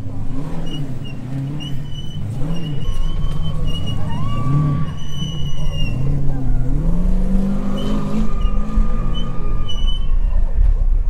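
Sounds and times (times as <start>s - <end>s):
vehicle engine revving: 0.0s - 10.7s.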